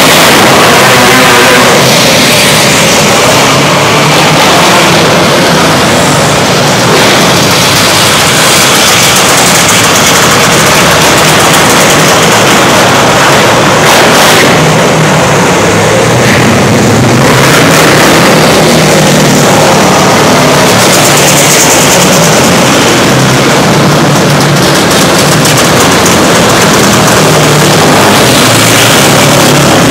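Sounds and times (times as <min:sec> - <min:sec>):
kart engines racing: 0:00.0 - 0:29.9.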